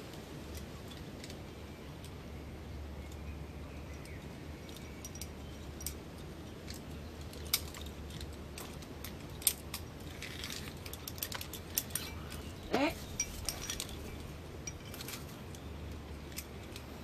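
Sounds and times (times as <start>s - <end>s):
metal climbing gear clinking: 0.0s - 2.4s, 3.0s - 17.0s
low steady rumble: 0.0s - 17.0s.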